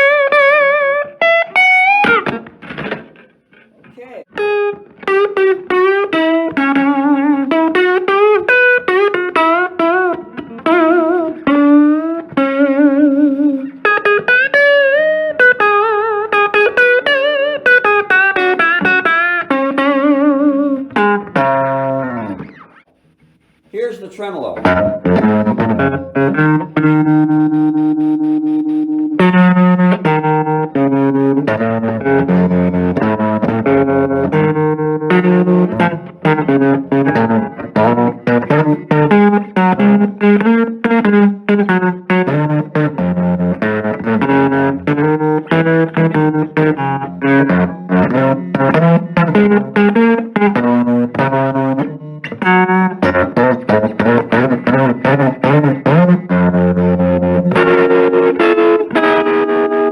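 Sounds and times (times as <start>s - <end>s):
electric guitar with tremolo: 0.0s - 23.8s, 24.5s - 59.9s.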